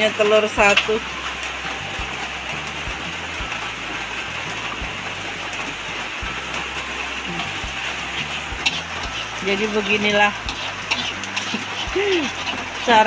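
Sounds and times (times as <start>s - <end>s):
egg sizzling in hot oil: 0.0s - 13.0s
heavy rain hissing: 0.0s - 13.0s.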